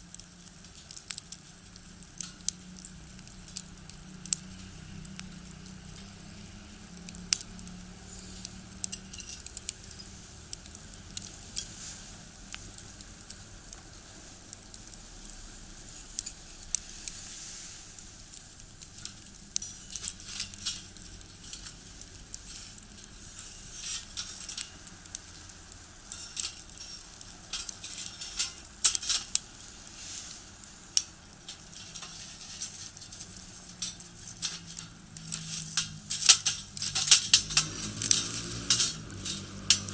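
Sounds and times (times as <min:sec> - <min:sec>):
wood crackling in a stove: 0:00.0 - 0:39.9.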